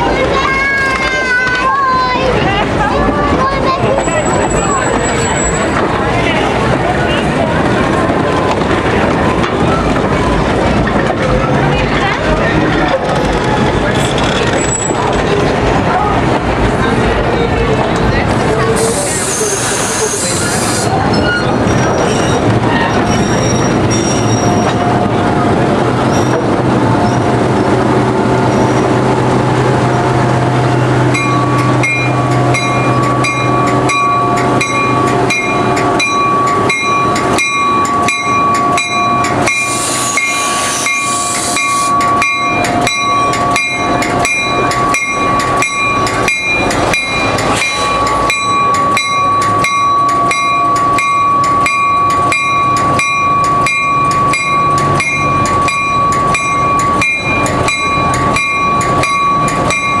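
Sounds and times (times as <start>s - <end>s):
railroad bell ringing: 0.0s - 16.1s, 18.4s - 25.1s, 28.3s - 60.0s
locomotive engine hum: 0.0s - 60.0s.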